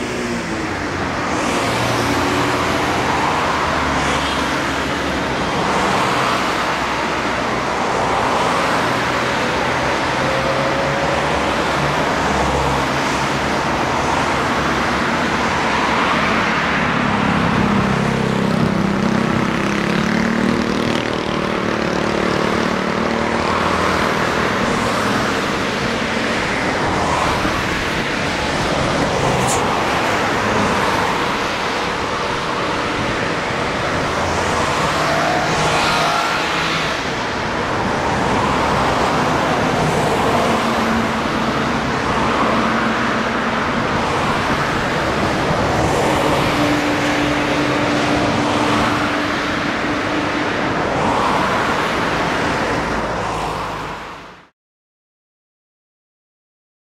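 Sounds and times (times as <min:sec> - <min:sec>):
cars passing: 0:00.0 - 0:54.5.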